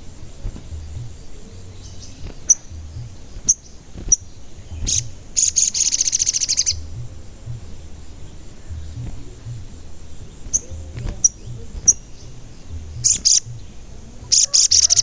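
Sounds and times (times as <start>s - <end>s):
sunbird chirps and trill: 0.0s - 15.0s.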